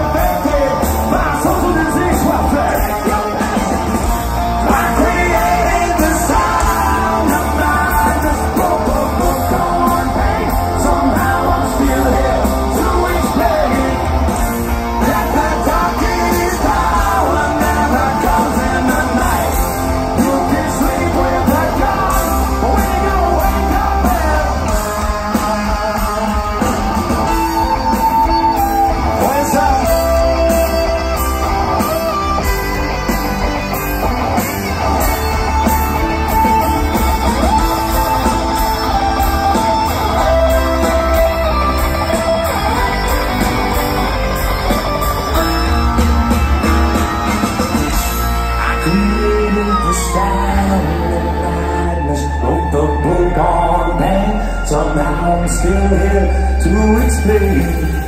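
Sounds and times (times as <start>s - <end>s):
live rock band over pa: 0.0s - 58.0s
wavering lead guitar line: 0.0s - 58.0s.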